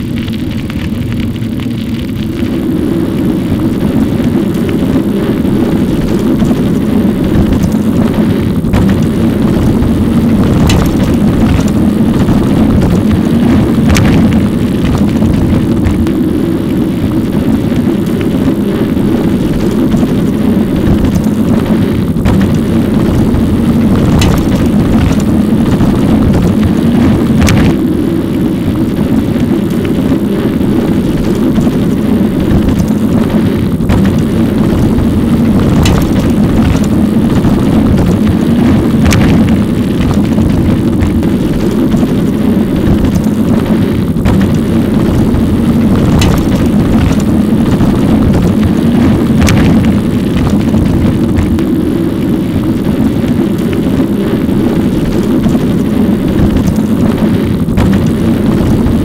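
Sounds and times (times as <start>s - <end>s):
wind and road noise rumble: 0.0s - 59.0s.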